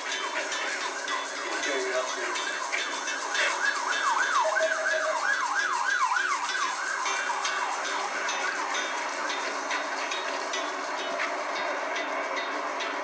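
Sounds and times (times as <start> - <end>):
emergency siren fast yelp: 0.0 - 11.9.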